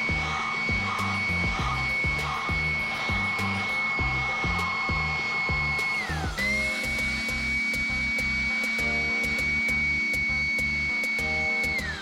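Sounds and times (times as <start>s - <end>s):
background music with bass: 0.0s - 12.0s
hair dryer whining: 0.0s - 12.0s.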